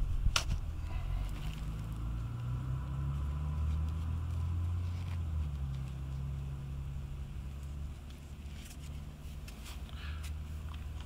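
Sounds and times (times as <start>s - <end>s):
motor vehicle engine drone: 0.0s - 11.0s.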